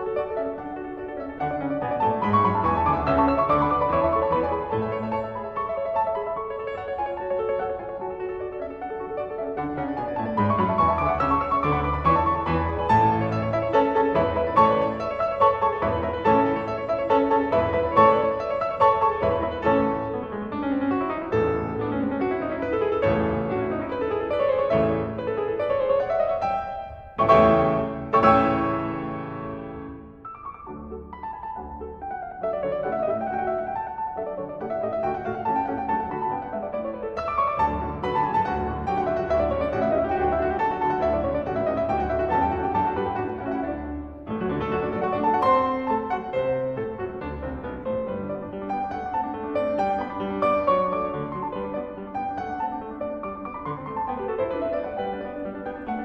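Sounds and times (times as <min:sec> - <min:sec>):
piano playing: 0:00.0 - 0:56.0.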